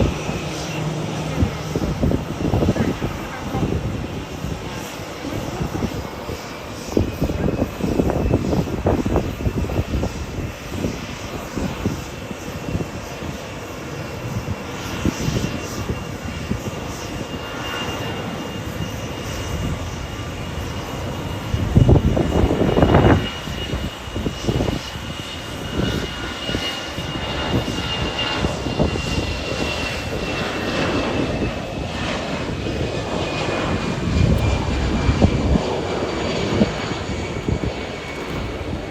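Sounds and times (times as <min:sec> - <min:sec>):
low rumbling rush: 0:00.0 - 0:17.3, 0:18.1 - 0:38.9
jet engine whine: 0:00.0 - 0:38.9.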